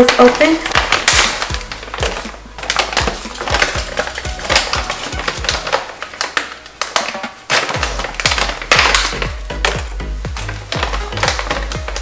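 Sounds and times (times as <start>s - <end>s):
background music with steady beat: 0.0s - 12.0s
treat bag crinkling: 0.0s - 12.0s.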